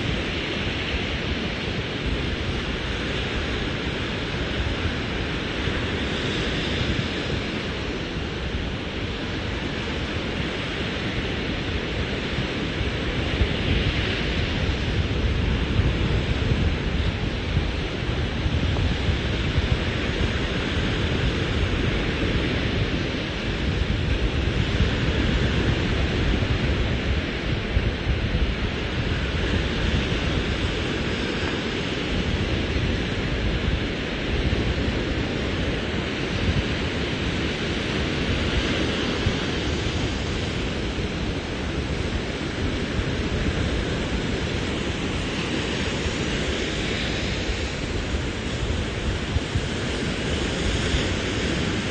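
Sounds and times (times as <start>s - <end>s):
surf breaking on beach: 0.0s - 51.9s
wind buffeting microphone: 0.0s - 51.9s.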